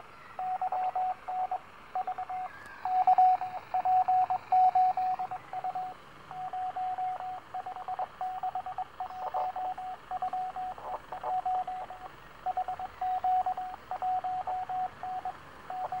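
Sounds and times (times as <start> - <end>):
radio static hiss: 0.0 - 16.0
morse code beeps: 0.4 - 16.0.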